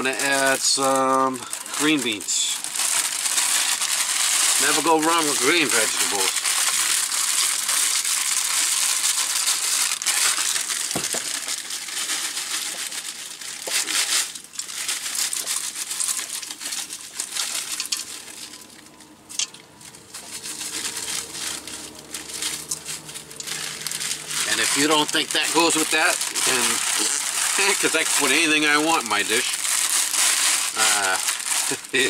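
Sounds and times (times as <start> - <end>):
plastic bag crinkling: 0.0 - 32.0.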